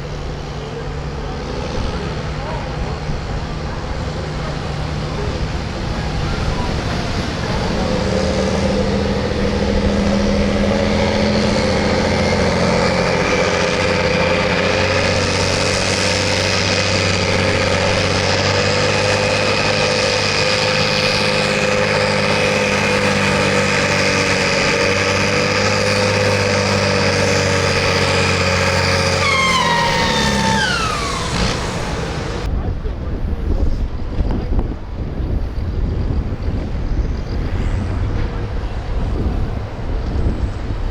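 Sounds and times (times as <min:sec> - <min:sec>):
high engine whine: 0:00.0 - 0:40.9
tractor engine under load: 0:00.0 - 0:40.9.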